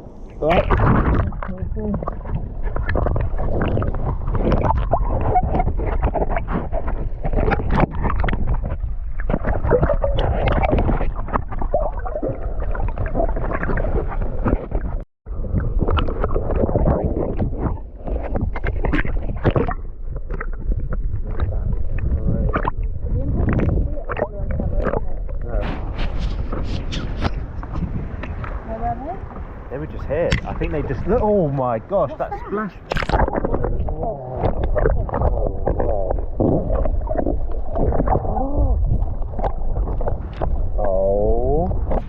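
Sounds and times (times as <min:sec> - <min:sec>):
water sloshing and splashing: 0:00.0 - 0:42.0
wind buffeting microphone: 0:00.0 - 0:42.0.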